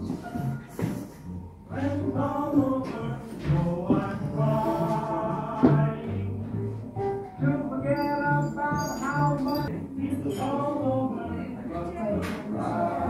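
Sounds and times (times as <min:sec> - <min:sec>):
instrumental accompaniment: 0:00.0 - 0:13.0
person singing: 0:01.7 - 0:13.0.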